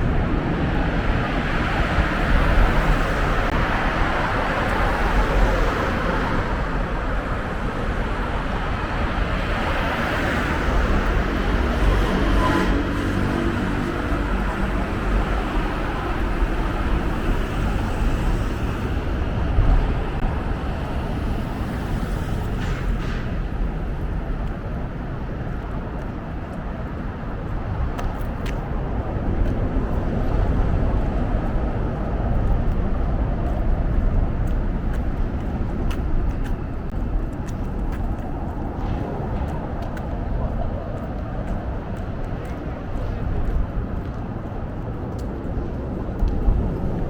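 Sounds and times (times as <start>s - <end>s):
cars passing on road: 0.0s - 47.0s.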